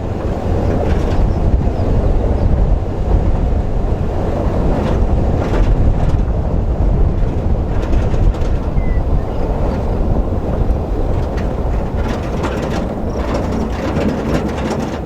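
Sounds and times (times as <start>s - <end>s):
knocks and rattles from bumps: 0.0s - 15.0s
truck engine and tyres on dirt: 0.0s - 15.0s.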